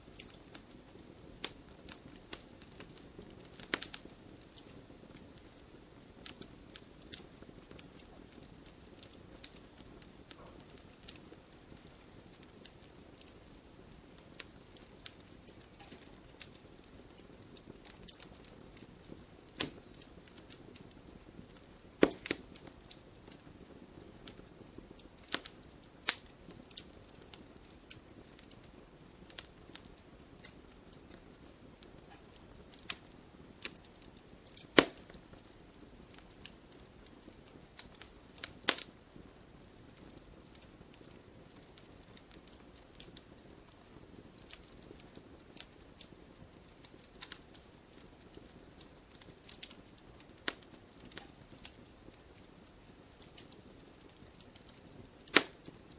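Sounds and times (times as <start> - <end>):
fire hissing: 0.0 - 39.3, 44.1 - 55.9
campfire crackling and popping: 0.0 - 55.9.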